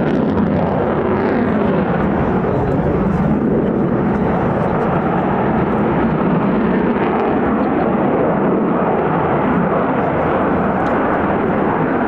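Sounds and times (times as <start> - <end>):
fighter jet engine noise: 0.0 - 12.0.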